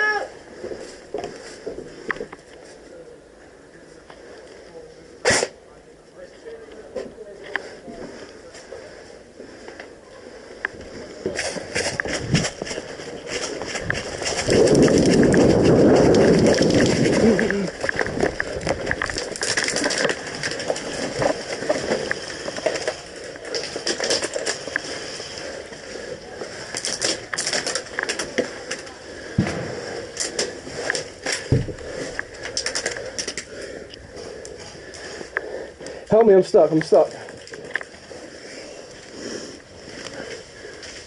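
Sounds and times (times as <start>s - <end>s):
rustling of movement: 6.3s - 41.0s.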